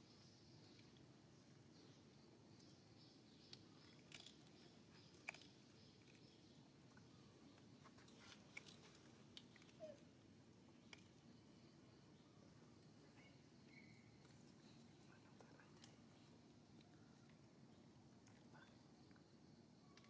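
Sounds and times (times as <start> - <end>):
faint background hum: 0.0 - 20.0.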